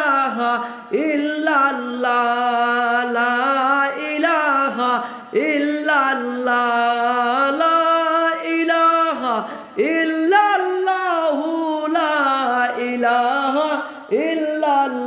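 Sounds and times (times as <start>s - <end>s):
man singing devotional chant: 0.0s - 15.0s.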